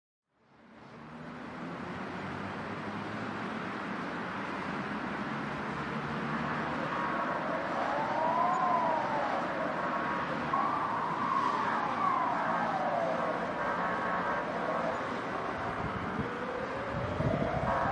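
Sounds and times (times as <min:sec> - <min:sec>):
road traffic noise: 0:00.3 - 0:17.9
emergency vehicle siren wailing: 0:03.1 - 0:17.9.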